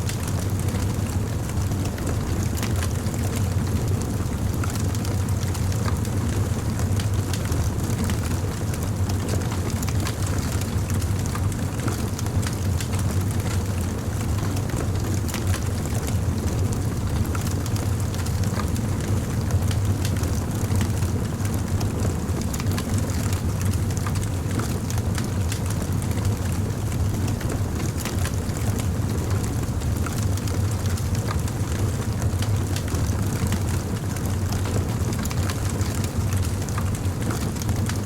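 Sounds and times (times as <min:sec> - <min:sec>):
wood fire crackling and popping: 0:00.1 - 0:38.0.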